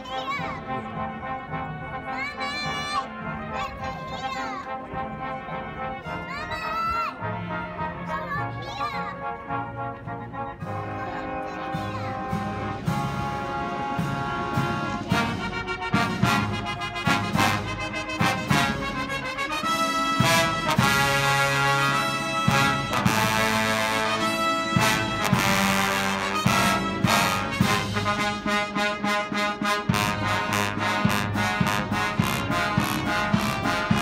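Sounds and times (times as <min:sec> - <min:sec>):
brass instruments playing: 0:00.0 - 0:34.0.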